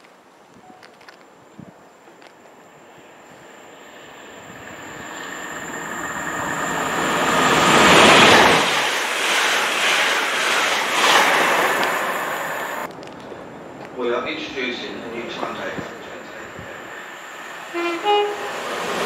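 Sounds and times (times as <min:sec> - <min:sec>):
train passing at speed: 0:02.3 - 0:19.0.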